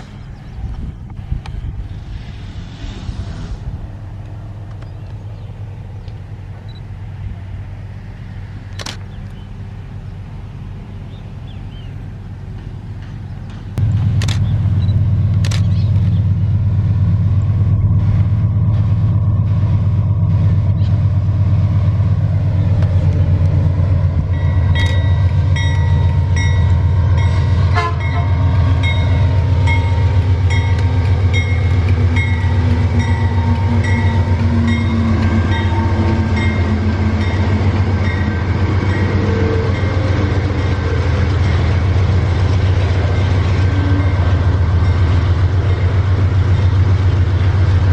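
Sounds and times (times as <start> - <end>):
locomotive engine rumble: 0.0 - 47.9.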